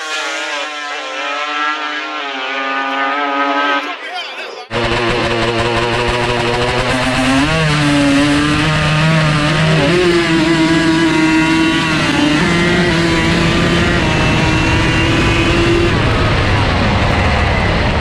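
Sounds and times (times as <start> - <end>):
atv engine racing: 0.0 - 18.0.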